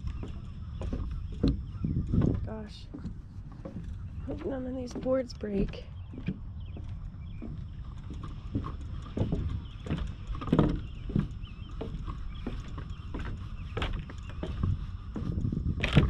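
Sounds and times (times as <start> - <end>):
footsteps on wooden planks: 0.0 - 16.0.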